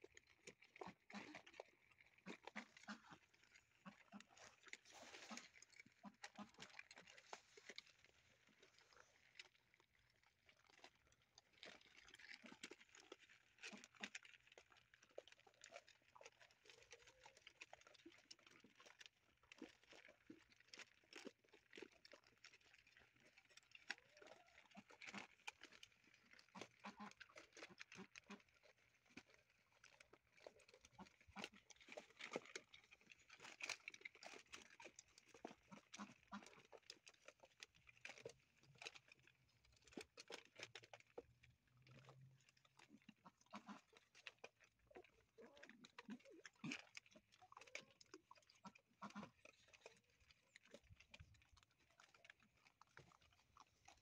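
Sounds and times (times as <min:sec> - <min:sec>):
puppies chewing and crunching: 0:00.0 - 0:54.0.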